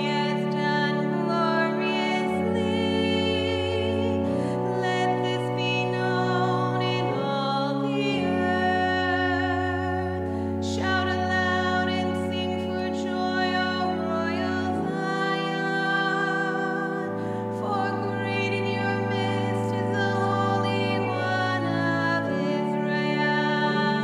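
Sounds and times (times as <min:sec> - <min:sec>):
person singing with vibrato: 0:00.0 - 0:24.0.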